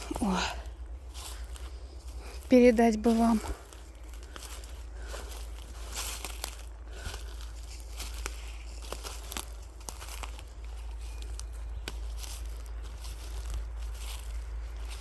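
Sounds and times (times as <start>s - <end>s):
footsteps on dry leaves: 0.0s - 15.0s.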